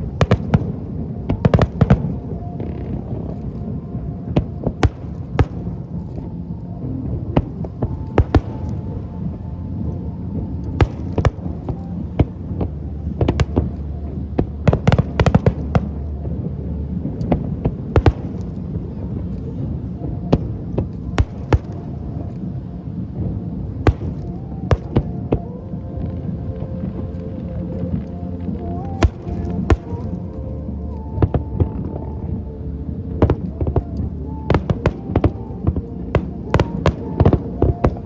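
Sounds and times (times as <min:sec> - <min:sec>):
low rumble: 0:00.0 - 0:38.0.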